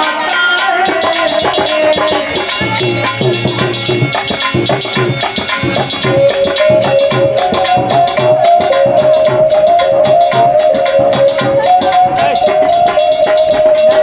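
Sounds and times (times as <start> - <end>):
harmonium: 0.0 - 14.0
fast hand drum rhythm: 0.6 - 14.0.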